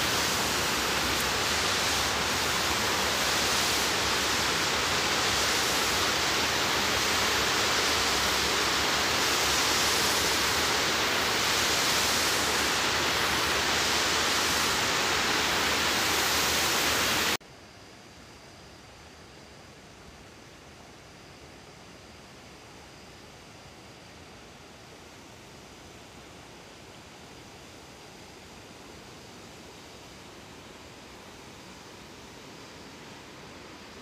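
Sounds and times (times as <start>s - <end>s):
faint hiss: 0.0s - 34.0s.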